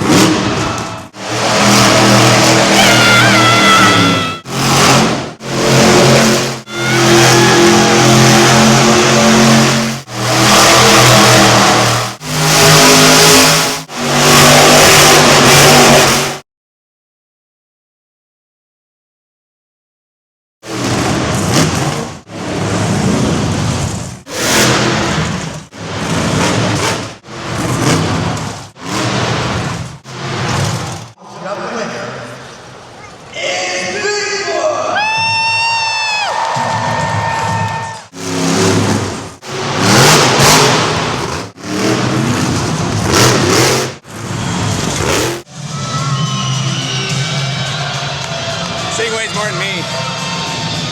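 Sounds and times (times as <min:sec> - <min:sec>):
monster truck engines rumbling: 0:00.0 - 0:16.4, 0:20.6 - 0:50.9.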